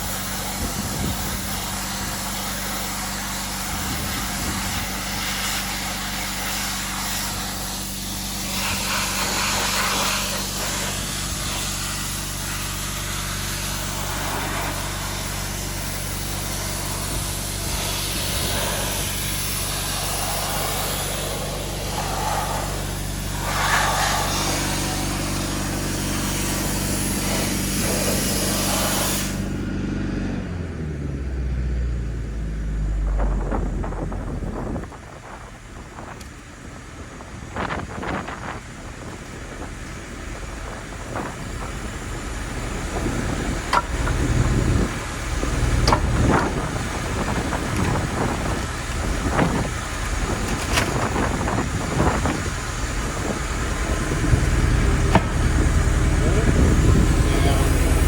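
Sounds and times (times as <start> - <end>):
sandblaster hissing: 0.0 - 29.8, 37.1 - 58.0
engine droning: 0.0 - 58.0.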